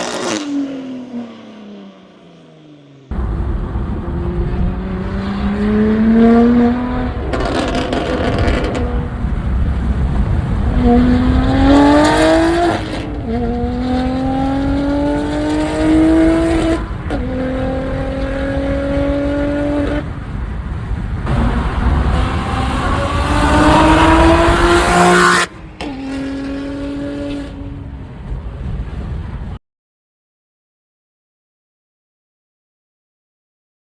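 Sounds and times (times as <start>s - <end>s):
car exhaust accelerating through gears: 0.0s - 29.6s.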